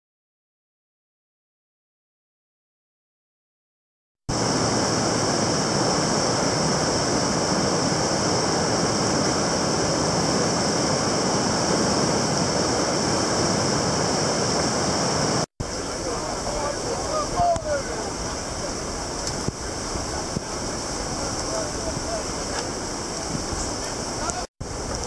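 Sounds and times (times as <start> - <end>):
rushing whitewater river: 4.3 - 25.0.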